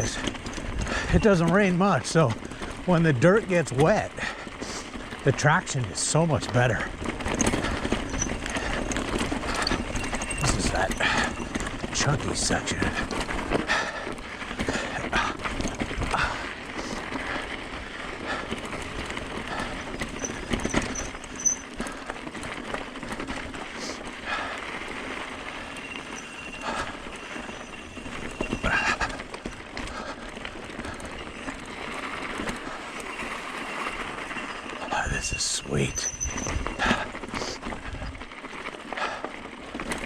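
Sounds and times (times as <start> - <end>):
bike rattling over rocks: 0.0 - 40.0
tyre noise on dirt: 0.0 - 40.0.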